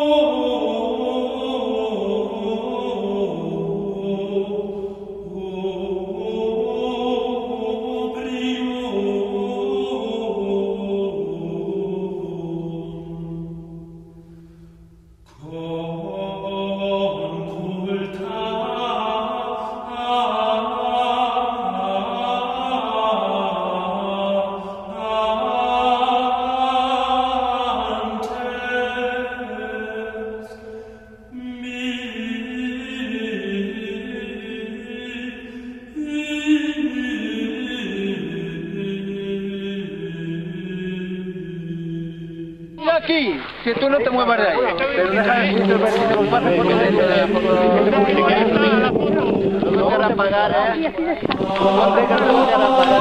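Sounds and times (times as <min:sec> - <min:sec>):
slow chant-like music: 0:00.0 - 0:42.8, 0:44.7 - 0:53.0.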